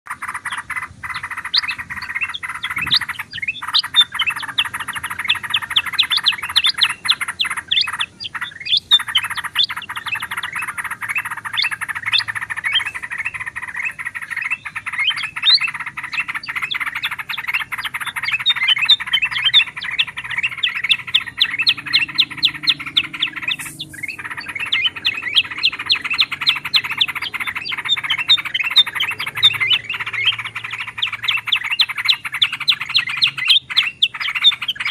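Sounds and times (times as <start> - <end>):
birds chattering and chirping: 0.0 - 34.9.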